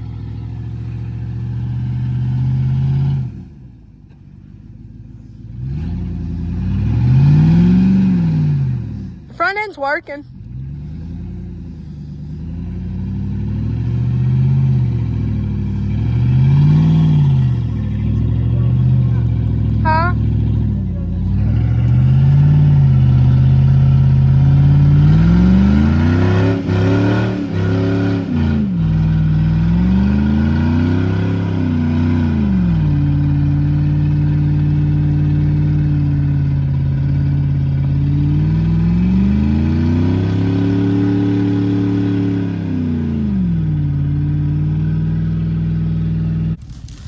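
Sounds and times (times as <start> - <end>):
truck engine revving: 0.0 - 3.7, 5.2 - 47.0.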